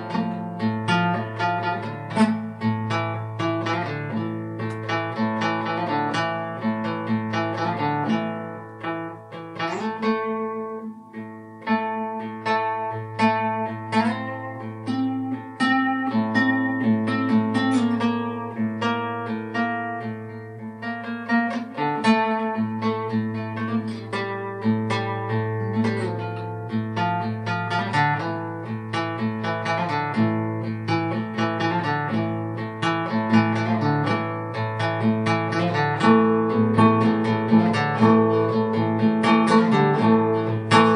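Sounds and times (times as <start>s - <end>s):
plucked guitar notes: 0.0s - 40.9s.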